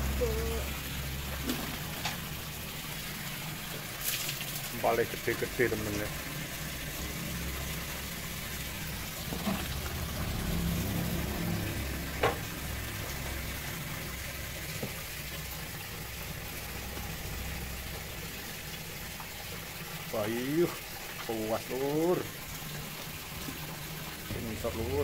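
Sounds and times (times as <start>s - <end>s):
hot oil sizzling: 0.0s - 25.0s.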